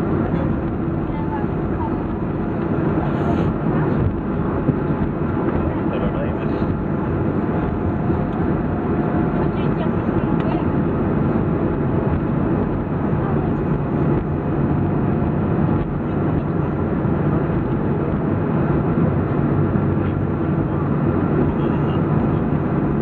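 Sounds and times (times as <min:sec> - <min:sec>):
airplane cabin engine rumble: 0:00.0 - 0:23.0.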